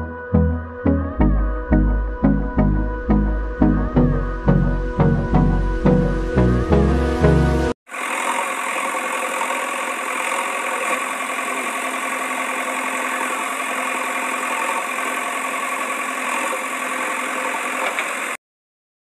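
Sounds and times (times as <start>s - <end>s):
engine idling: 1.7s - 18.4s.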